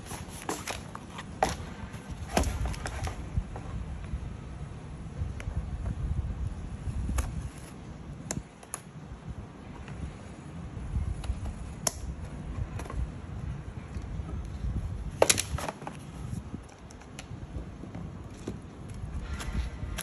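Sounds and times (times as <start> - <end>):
handling rumble: 0.0 - 20.0.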